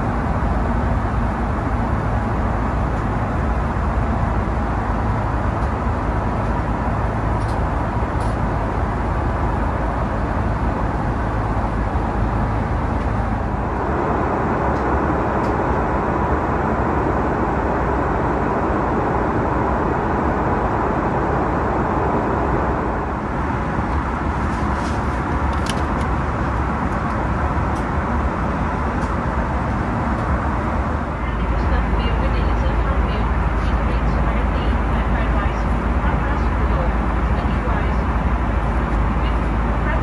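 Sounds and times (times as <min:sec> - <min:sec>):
airplane cabin engine noise: 0:00.0 - 0:40.0.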